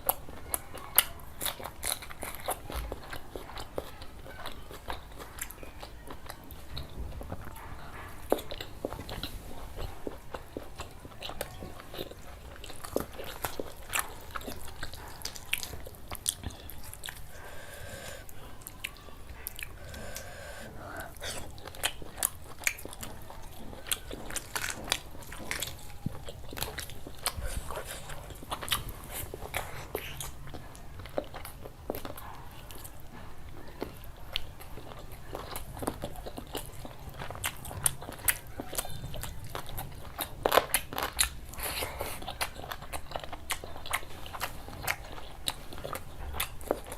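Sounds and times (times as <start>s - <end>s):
person chewing food close up: 0.0s - 46.9s.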